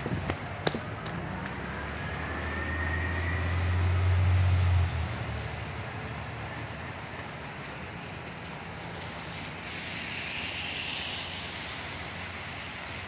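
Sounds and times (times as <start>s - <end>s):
tyre hiss on wet road: 0.0s - 6.0s, 7.4s - 13.0s
diesel truck engine: 0.0s - 13.0s.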